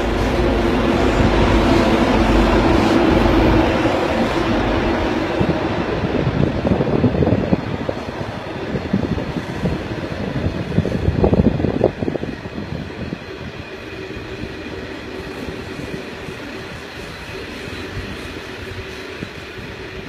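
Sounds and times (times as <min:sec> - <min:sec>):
freight train wagons rolling past: 0:00.0 - 0:20.0.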